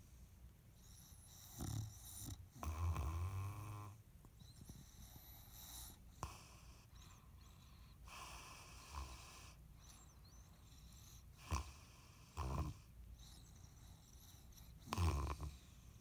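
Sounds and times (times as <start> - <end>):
dog snoring: 0.8 - 16.0
dog snorting: 1.0 - 4.0, 4.6 - 16.0.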